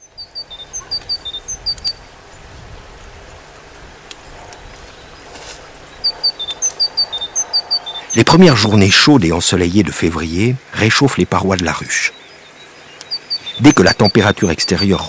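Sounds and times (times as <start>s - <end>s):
small songbird chirping: 0.0s - 9.2s, 11.1s - 15.0s
outdoor hiss: 0.0s - 15.0s.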